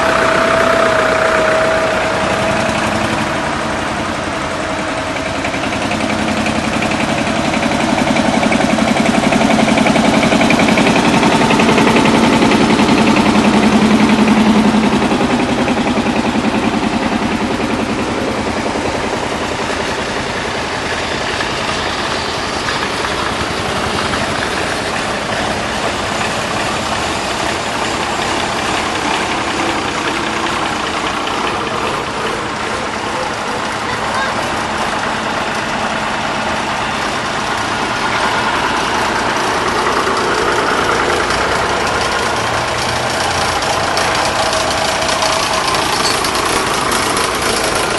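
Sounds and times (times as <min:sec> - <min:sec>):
tractor engines running: 0:00.0 - 0:47.9
tractor passing by: 0:00.0 - 0:47.9.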